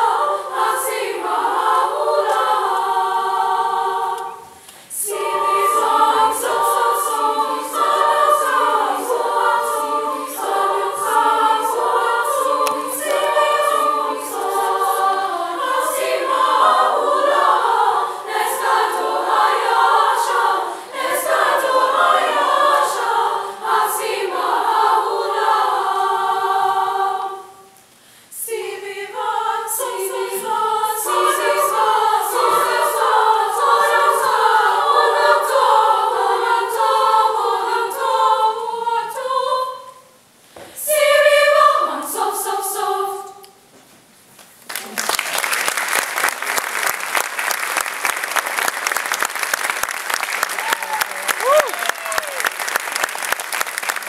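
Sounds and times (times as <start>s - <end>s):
women's choir singing: 0.0s - 43.7s.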